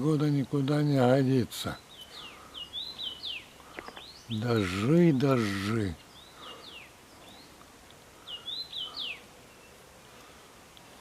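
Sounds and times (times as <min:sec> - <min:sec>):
faint outdoor hiss: 0:00.0 - 0:11.0
songbird calling: 0:01.0 - 0:10.4.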